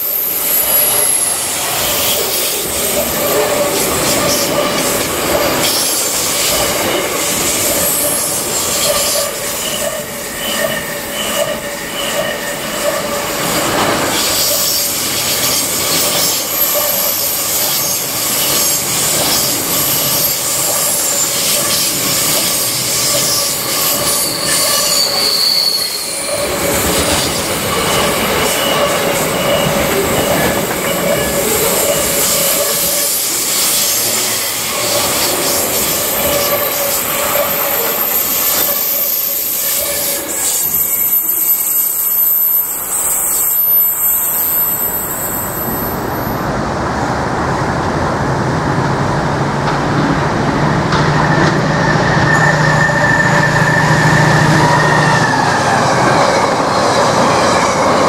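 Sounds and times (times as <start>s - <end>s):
wheels squealing: 0.0s - 46.5s, 50.9s - 58.0s
steel wheels on rail: 0.0s - 58.0s.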